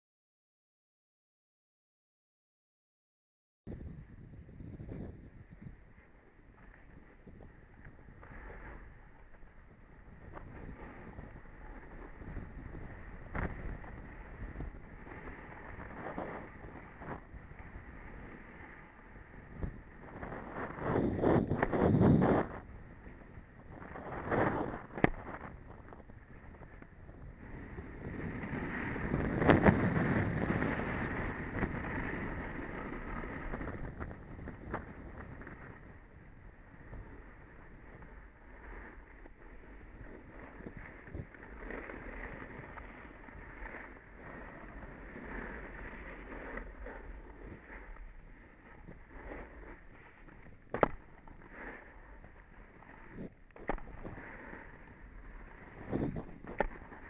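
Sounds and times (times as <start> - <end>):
skis scraping over packed snow: 3.7 - 57.0
wind rushing over microphone: 3.7 - 57.0.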